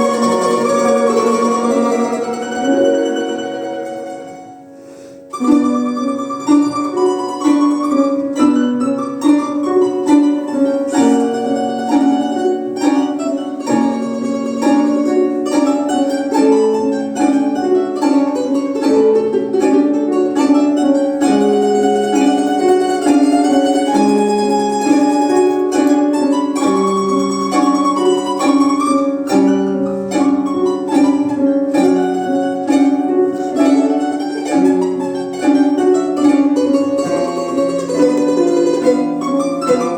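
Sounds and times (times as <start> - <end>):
plucked string ensemble music: 0.0 - 39.9.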